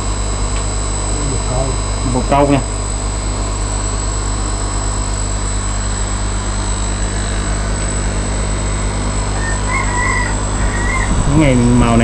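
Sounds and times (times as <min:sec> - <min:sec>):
air pump motors humming: 0:00.0 - 0:12.0.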